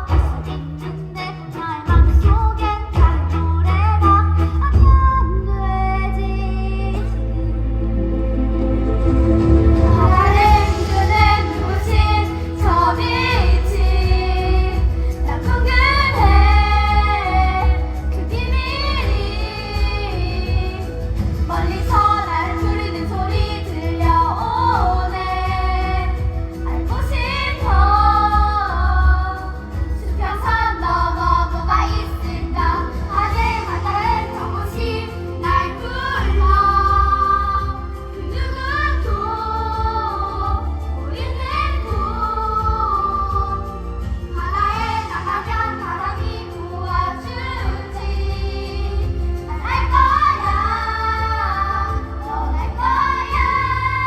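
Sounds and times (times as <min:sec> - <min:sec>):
instrumental accompaniment: 0:00.0 - 0:54.0
young voices singing: 0:09.8 - 0:54.0.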